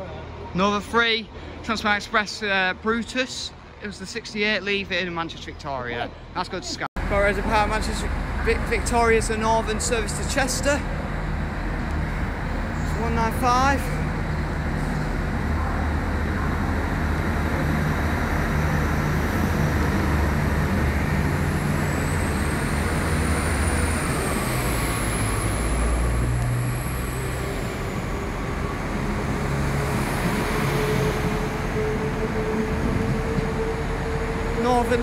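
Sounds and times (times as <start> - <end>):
train diesel engines rumbling: 0.0 - 35.0.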